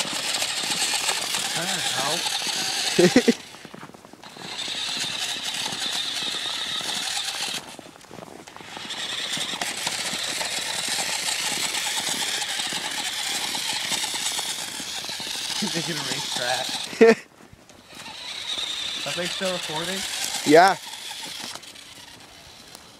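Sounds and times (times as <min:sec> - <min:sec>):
toy motor whining and rattling: 0:00.0 - 0:22.9.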